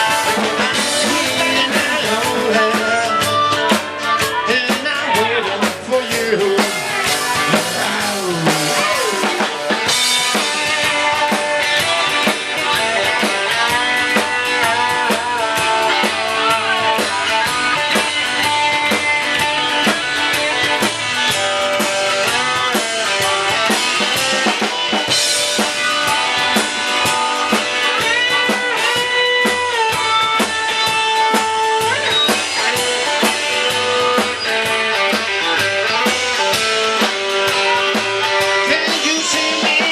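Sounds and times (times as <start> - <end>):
drum kit steady beat: 0.0 - 39.9
guitar: 0.0 - 39.9
lead guitar bending notes: 0.0 - 39.9.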